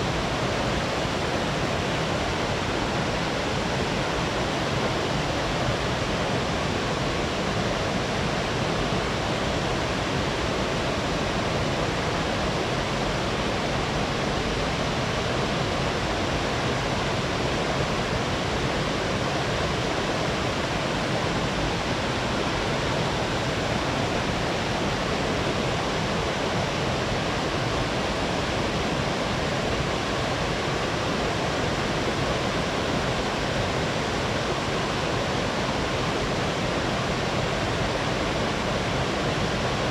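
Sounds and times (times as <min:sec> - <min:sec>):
water cascading over rocks: 0:00.0 - 0:39.9.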